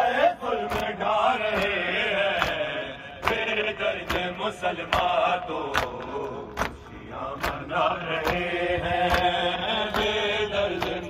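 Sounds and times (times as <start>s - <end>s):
men chanting a lament: 0.0s - 11.0s
hands slapping chests: 0.6s - 11.0s.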